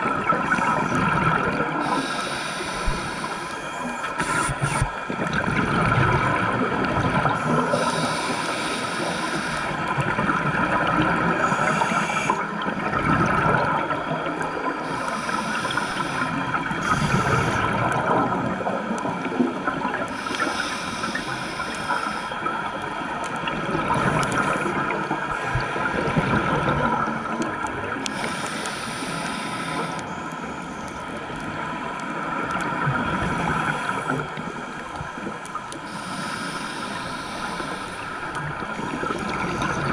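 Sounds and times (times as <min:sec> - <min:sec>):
exhaled bubbles underwater: 0:00.0 - 0:30.6, 0:31.2 - 0:36.2, 0:37.1 - 0:39.9
steady underwater rush: 0:00.0 - 0:39.9.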